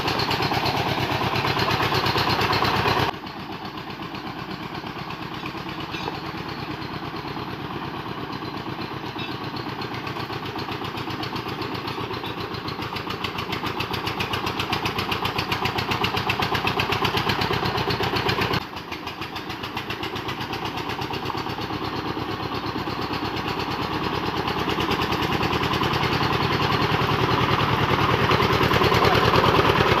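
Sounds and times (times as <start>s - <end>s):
diesel engine chugging: 0.0s - 30.0s.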